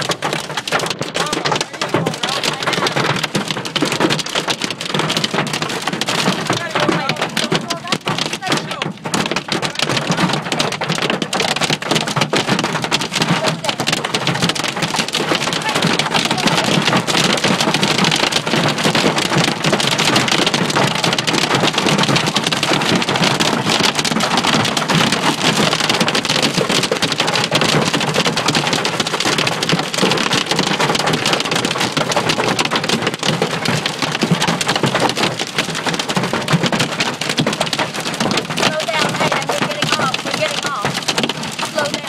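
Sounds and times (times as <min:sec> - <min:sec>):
hail and rain on a car roof: 0:00.0 - 0:42.0.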